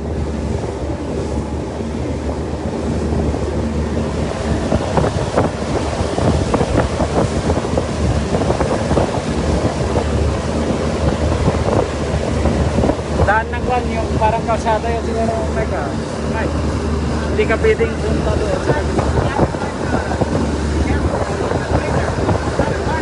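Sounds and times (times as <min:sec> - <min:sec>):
boat engine drone: 0:00.0 - 0:23.0
water rushing: 0:00.0 - 0:23.0
wind buffeting microphone: 0:00.0 - 0:23.0.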